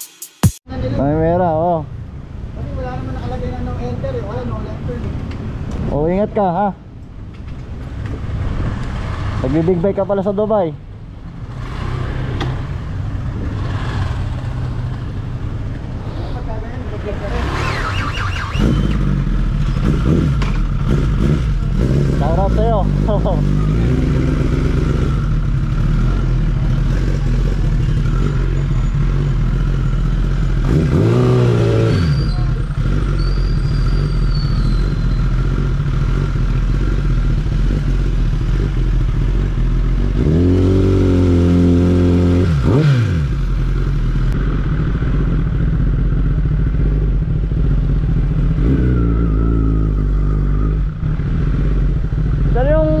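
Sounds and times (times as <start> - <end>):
motorcycle engine idling and revving: 0.7 - 53.0.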